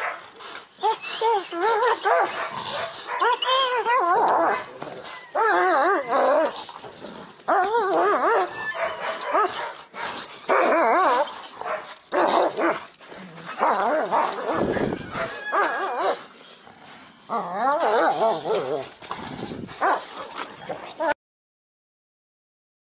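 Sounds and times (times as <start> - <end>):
dog screaming and yelping: 0.0 - 6.6, 7.6 - 16.3, 17.4 - 21.2.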